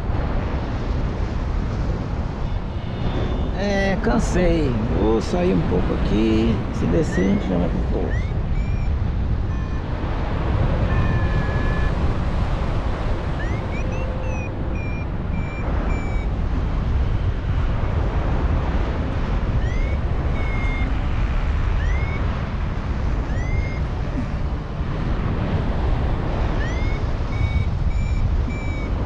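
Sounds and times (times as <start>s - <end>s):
wind rushing over microphone: 0.0s - 29.0s
variometer electronic beeps: 2.4s - 18.1s, 19.1s - 29.0s.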